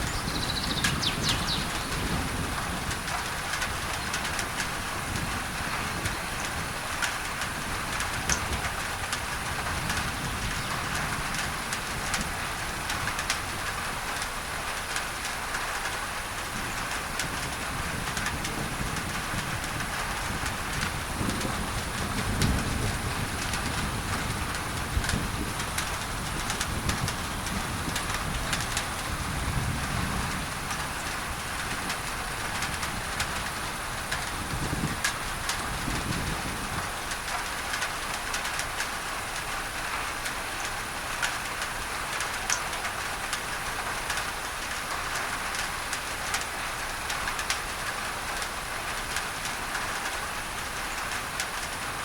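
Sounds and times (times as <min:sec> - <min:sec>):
rain on a tin roof: 0:00.0 - 0:52.0.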